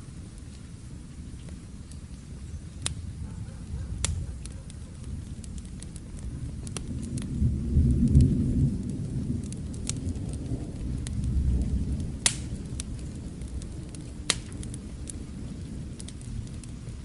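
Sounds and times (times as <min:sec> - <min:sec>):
fireplace fire crackling: 0:00.0 - 0:17.0
rain hissing: 0:00.0 - 0:17.0
distant thunder rumbling: 0:02.8 - 0:17.0.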